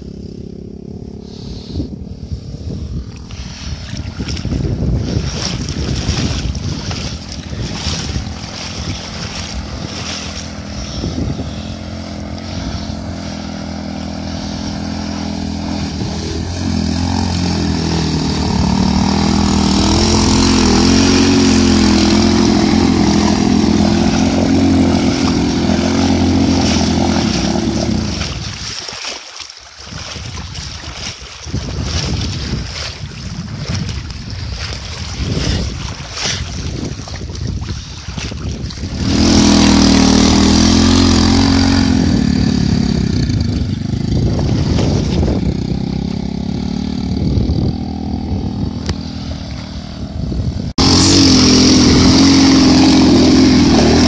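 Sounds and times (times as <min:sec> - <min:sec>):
motorcycle engine running: 0:00.0 - 0:28.8, 0:30.0 - 0:54.0
water churning around wheels: 0:00.0 - 0:54.0.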